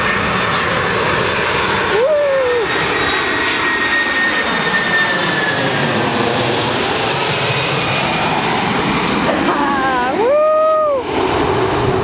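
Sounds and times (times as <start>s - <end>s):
high jet engine whine: 0.0s - 12.0s
jet airliner passing overhead: 0.0s - 12.0s.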